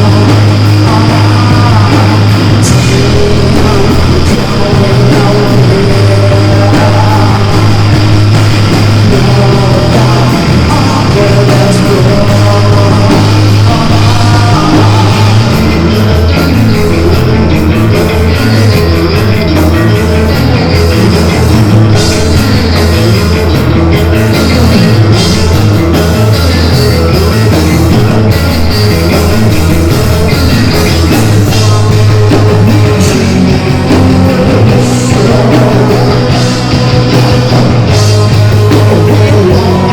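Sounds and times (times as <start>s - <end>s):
distorted electric guitar: 0.0s - 39.9s
drums: 0.0s - 39.9s
heavy bass line: 0.0s - 39.9s.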